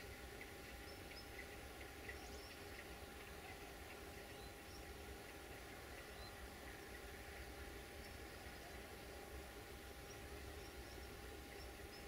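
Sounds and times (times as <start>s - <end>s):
low steady rumble: 0.0s - 12.0s
small birds chirping: 0.0s - 12.0s.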